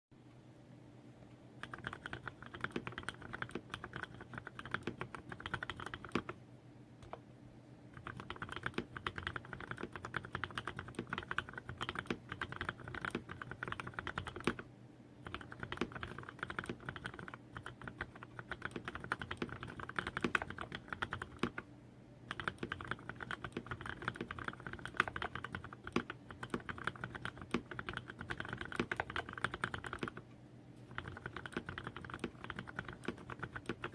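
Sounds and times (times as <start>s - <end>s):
mechanical keyboard typing: 1.6s - 6.4s, 7.0s - 7.2s, 7.9s - 21.6s, 22.3s - 30.2s, 30.8s - 33.9s.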